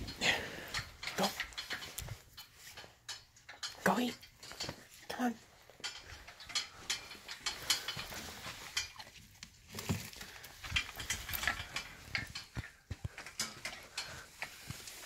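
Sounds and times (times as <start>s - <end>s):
dry kibble rattling: 0.0s - 15.0s.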